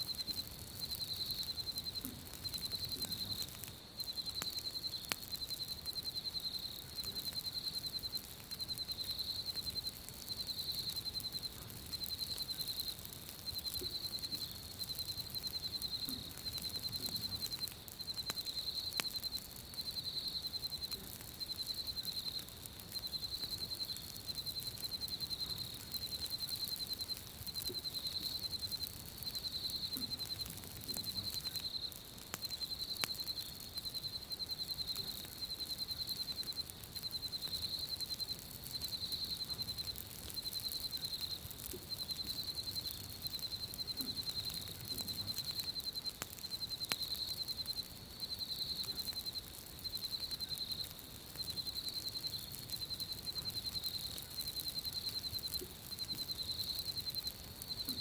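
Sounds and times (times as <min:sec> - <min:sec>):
campfire crackling: 0:00.0 - 0:58.0
insect-like chirping: 0:00.0 - 0:58.0.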